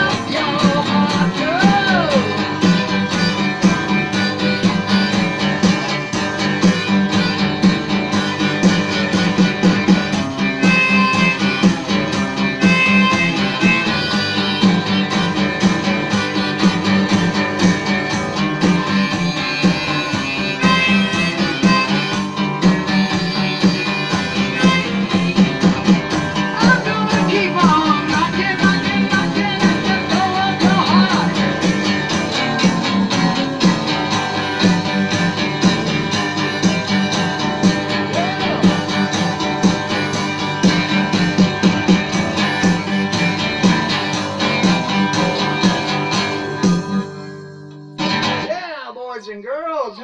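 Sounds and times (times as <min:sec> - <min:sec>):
rockabilly rock and roll song: 0:00.0 - 0:50.0.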